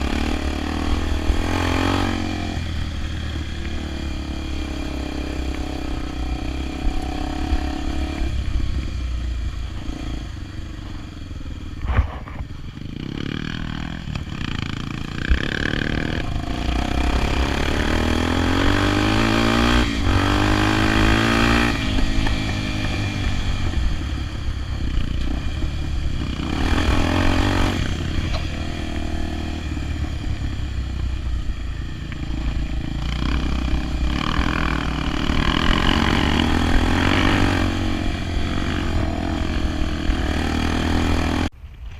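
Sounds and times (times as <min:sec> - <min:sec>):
motorcycle engine running: 0:00.0 - 0:41.6.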